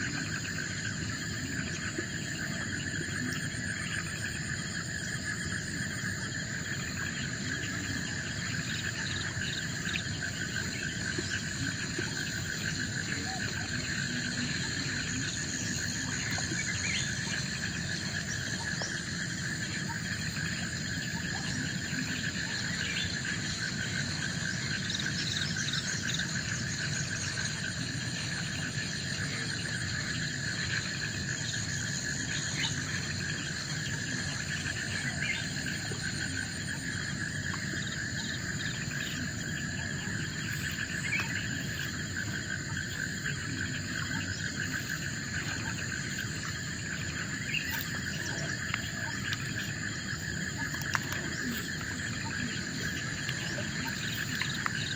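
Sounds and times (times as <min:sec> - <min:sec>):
chorus of forest insects: 0:00.0 - 0:54.9.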